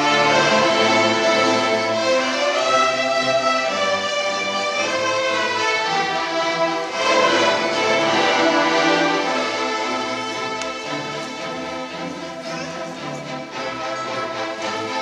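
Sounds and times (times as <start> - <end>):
orchestra playing classical music: 0.0 - 15.0
violins holding sustained notes: 0.0 - 15.0.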